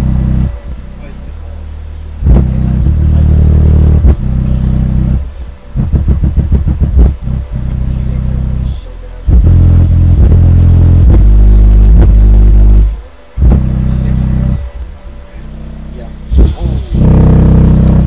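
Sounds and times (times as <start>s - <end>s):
short bass hits: 0.0s - 1.2s, 2.2s - 18.0s
subwoofer playing deep bass: 0.0s - 18.0s.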